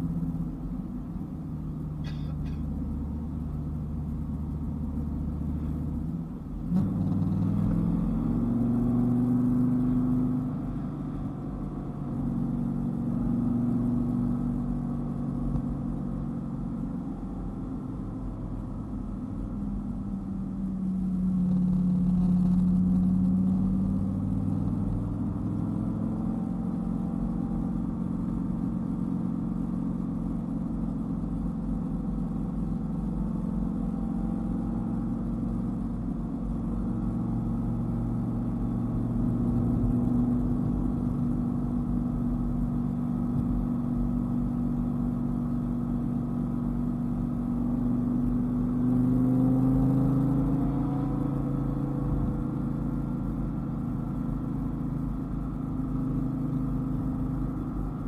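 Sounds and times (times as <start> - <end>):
car engine revving: 0.0 - 17.1, 19.8 - 58.0.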